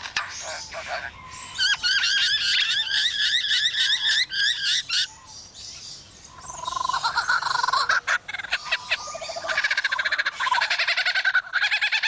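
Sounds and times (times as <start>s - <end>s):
lyrebird calling: 0.0s - 5.3s, 6.3s - 12.0s.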